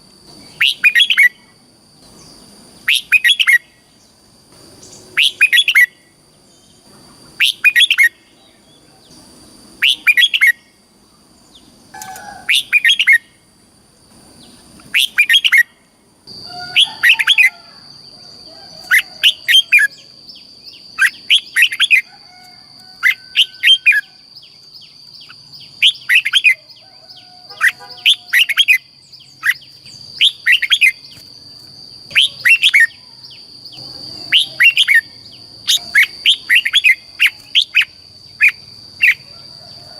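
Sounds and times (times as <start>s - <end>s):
bird singing: 0.0s - 13.5s, 14.3s - 39.9s.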